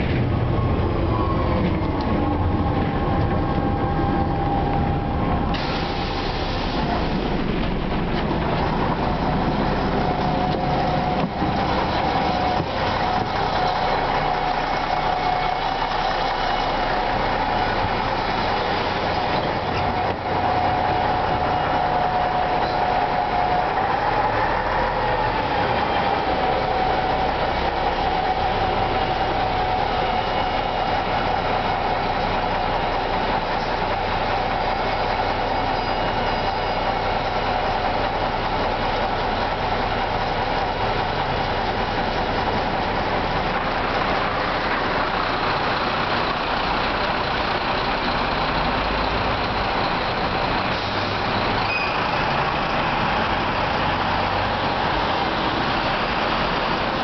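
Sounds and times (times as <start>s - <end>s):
bus diesel engine pulling away: 0.0s - 57.0s
heavy truck approaching: 0.0s - 57.0s
tyres hissing on wet road: 5.2s - 57.0s.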